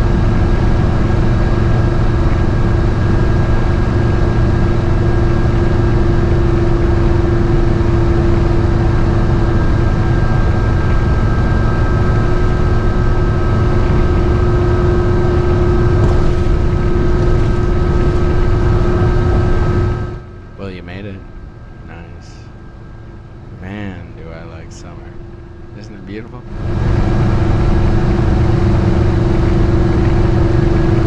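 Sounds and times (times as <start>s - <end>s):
engine and road rumble: 0.0s - 31.0s
faint whine: 0.0s - 31.0s.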